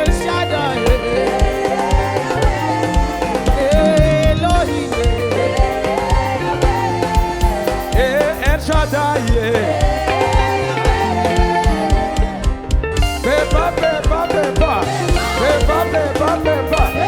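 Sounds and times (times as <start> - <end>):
worship band playing upbeat song: 0.0 - 17.0.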